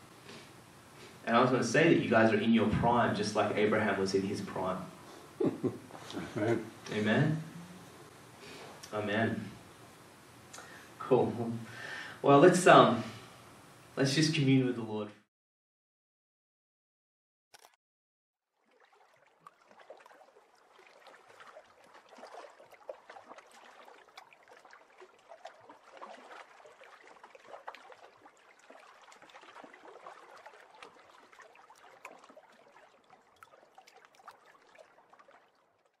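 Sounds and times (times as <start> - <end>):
faint moving water: 0.0 - 14.7, 18.4 - 36.0.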